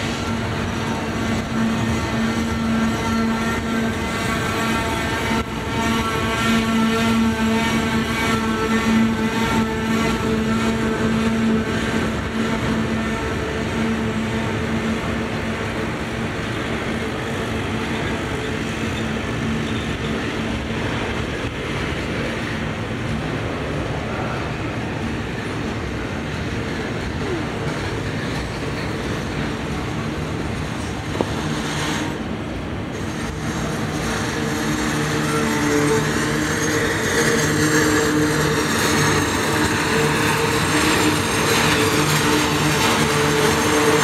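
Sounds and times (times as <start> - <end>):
freight train rumbling past: 0.0 - 44.0.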